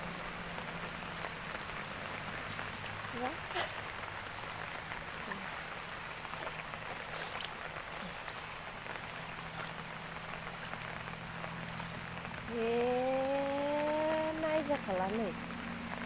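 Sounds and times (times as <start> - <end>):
heavy rain hiss: 0.0 - 16.0
raindrops striking close by: 0.0 - 16.0.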